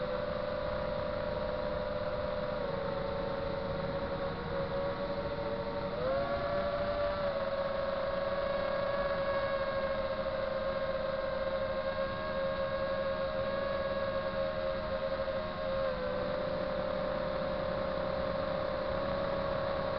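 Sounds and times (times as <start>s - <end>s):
drone motors and propellers whining: 0.0s - 19.9s.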